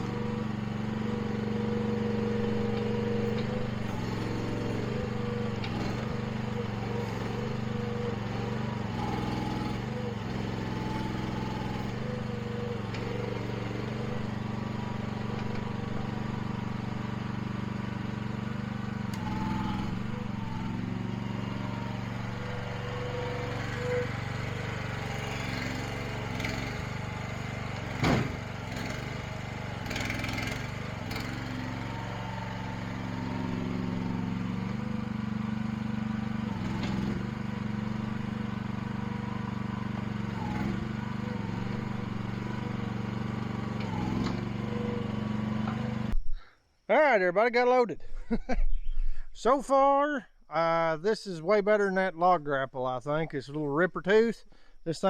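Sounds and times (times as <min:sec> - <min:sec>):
small gasoline engine running: 0:00.0 - 0:46.2.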